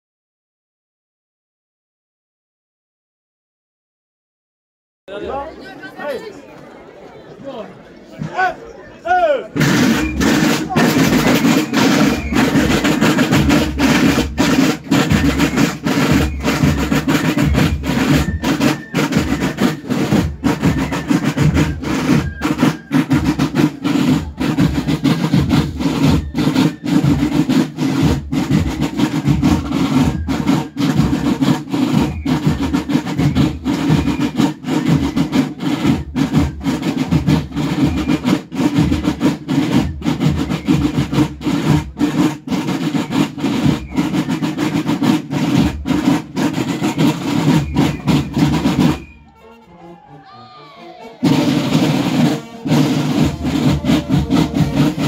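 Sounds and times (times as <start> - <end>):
marching drums beating: 8.2 - 55.0.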